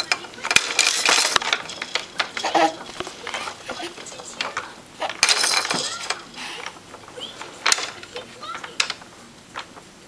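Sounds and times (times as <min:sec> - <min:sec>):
plastic toy beads rattling: 0:00.0 - 0:09.7.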